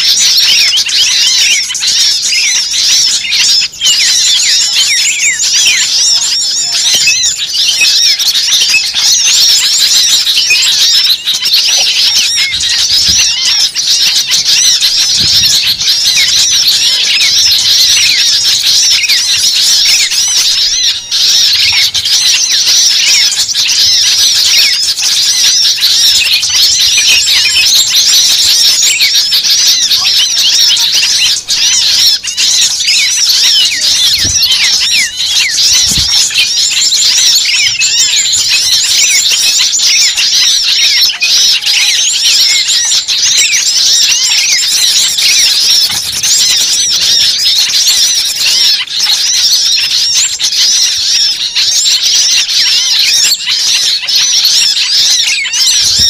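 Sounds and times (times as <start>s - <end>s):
small birds chittering: 0.0s - 56.0s.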